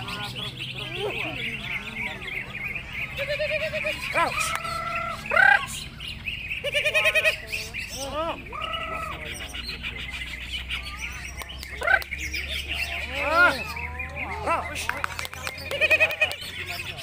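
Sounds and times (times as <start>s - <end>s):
chorus of songbirds: 0.0s - 17.0s
bird singing whistled song: 0.2s - 14.4s.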